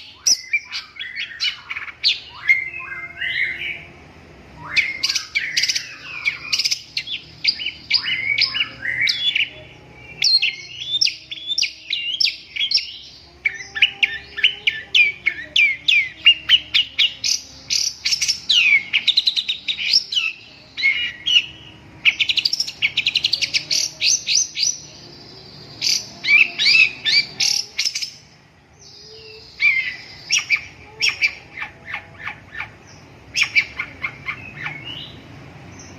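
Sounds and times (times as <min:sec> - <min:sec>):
bird chattering and whistling: 0:04.6 - 0:24.9, 0:25.6 - 0:28.3, 0:29.0 - 0:35.9.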